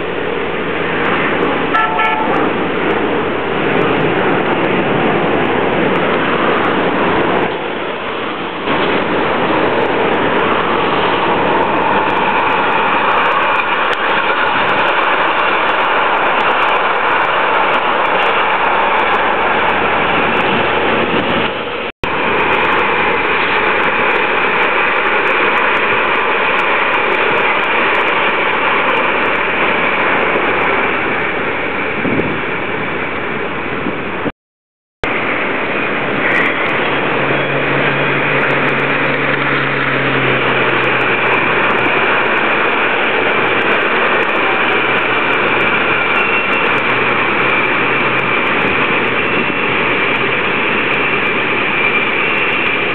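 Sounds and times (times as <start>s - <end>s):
light rail train passing: 0.0s - 34.3s, 35.0s - 52.9s
street traffic noise: 0.0s - 34.3s, 35.0s - 52.9s.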